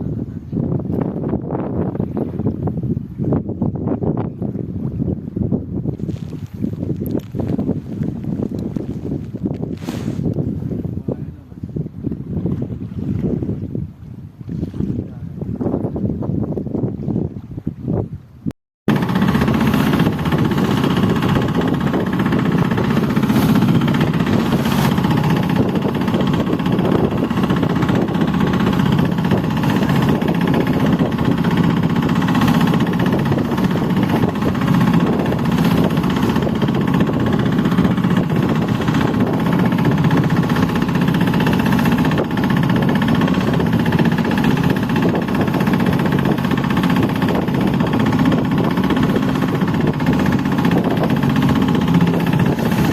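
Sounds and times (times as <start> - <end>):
boat engine running: 0.0 - 52.9.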